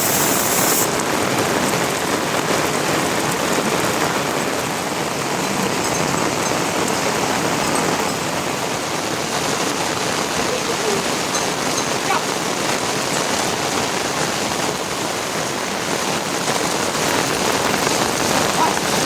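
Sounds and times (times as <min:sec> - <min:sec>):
steady rain hiss: 0:00.0 - 0:19.0
raindrop ticks: 0:00.9 - 0:19.0.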